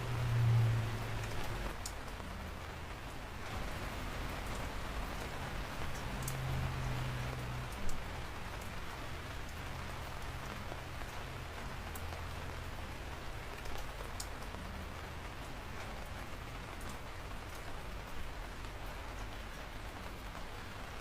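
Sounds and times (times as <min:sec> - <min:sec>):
raindrops ticking sharply: 0:00.0 - 0:21.0
steady rain falling: 0:00.0 - 0:21.0.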